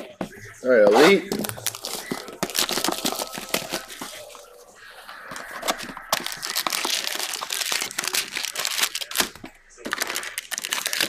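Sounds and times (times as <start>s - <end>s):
plastic wrap crinkling: 1.0s - 11.0s.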